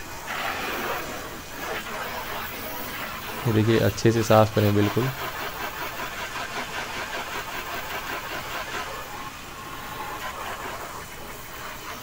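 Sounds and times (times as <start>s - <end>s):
water spray hissing: 0.0s - 12.0s.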